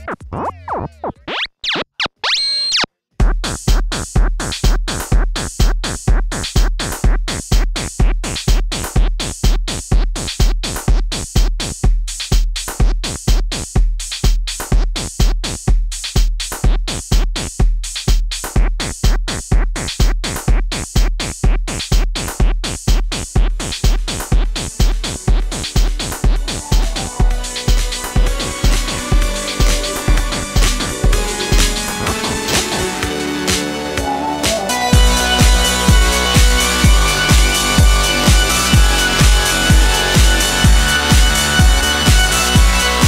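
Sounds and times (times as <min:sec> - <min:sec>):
electronic dance music synthesizers: 0:00.0 - 0:12.3, 0:15.0 - 0:43.0
drum machine kick: 0:03.2 - 0:43.0.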